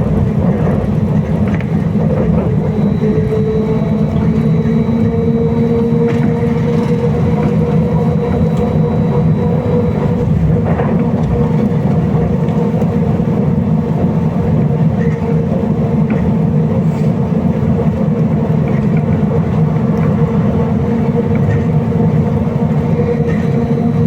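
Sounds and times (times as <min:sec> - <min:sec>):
electric drive hum: 0:00.0 - 0:16.7, 0:17.3 - 0:24.0
rumble of tyres and body: 0:00.0 - 0:24.0.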